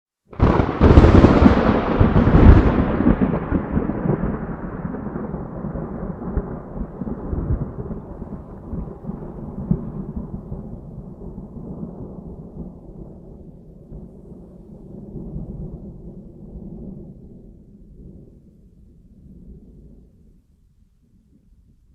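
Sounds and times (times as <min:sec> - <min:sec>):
thunder crack and rumble: 0:00.3 - 0:20.2.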